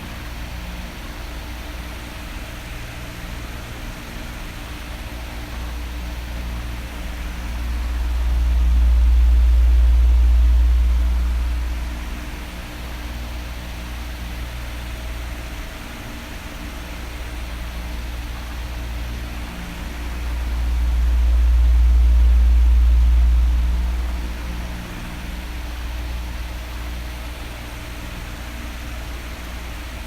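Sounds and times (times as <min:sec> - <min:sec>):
electric fan airflow hiss: 0:00.0 - 0:30.0
fan motor hum: 0:00.0 - 0:30.0
low airflow rumble: 0:00.0 - 0:30.0.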